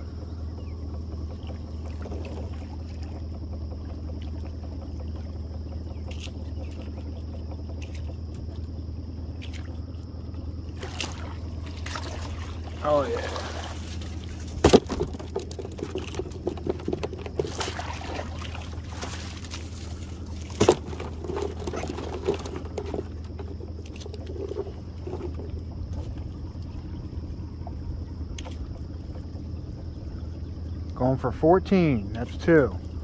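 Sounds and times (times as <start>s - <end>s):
steady low hum: 0.0s - 33.0s
water splashing and trickling: 0.9s - 33.0s.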